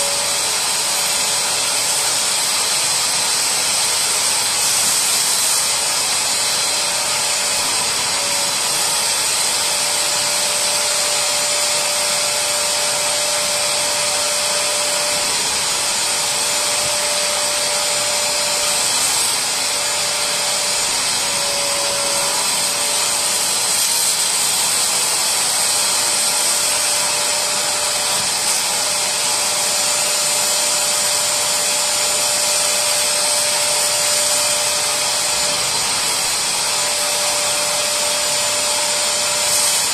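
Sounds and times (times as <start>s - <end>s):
suction cleaner motor running: 0.0s - 39.9s
suction rushing over fabric: 0.0s - 39.9s.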